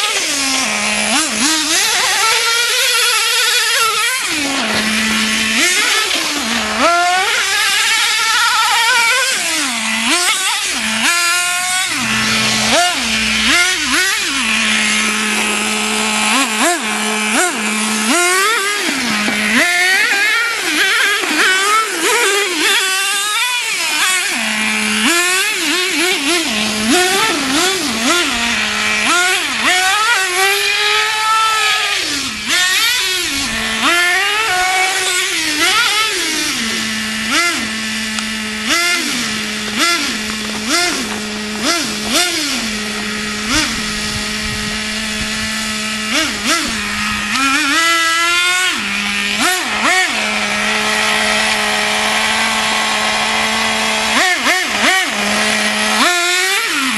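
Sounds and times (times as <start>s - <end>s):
small engine revving: 0.0s - 56.9s.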